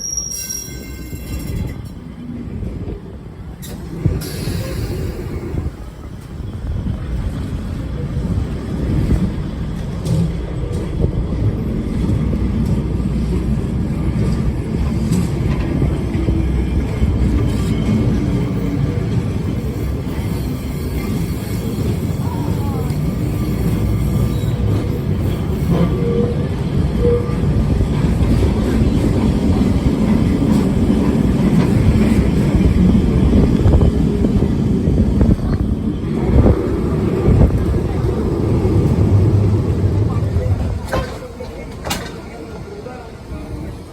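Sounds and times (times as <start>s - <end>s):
tram rumbling on rails: 0.0s - 43.9s.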